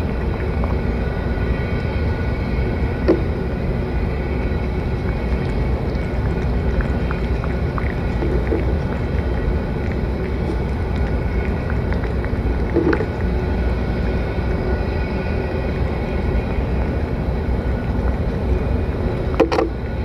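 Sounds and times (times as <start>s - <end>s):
cat eating from metal plate: 0.0s - 20.0s
low outdoor rumble: 0.0s - 20.0s.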